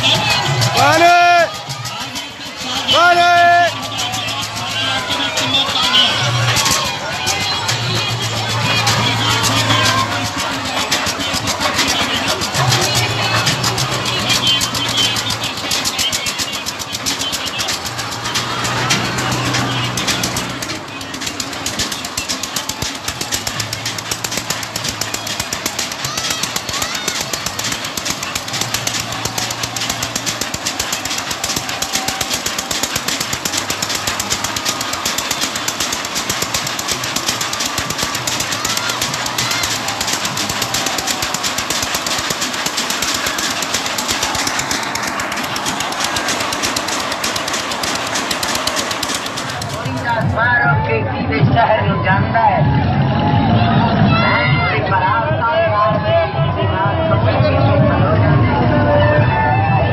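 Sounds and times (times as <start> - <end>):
ride cars clattering on metal track: 0.0 - 51.6.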